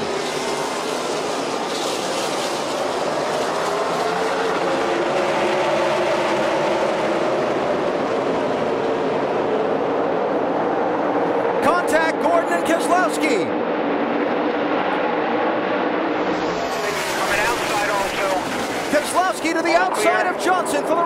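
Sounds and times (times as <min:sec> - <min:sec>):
race cars accelerating: 0:00.0 - 0:21.0.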